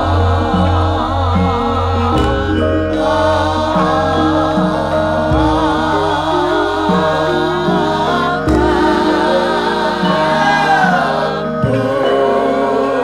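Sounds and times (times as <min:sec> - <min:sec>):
deep low struck notes: 0:00.0 - 0:12.2
metallophone notes: 0:00.0 - 0:13.0
person singing wavering melody: 0:00.0 - 0:13.0.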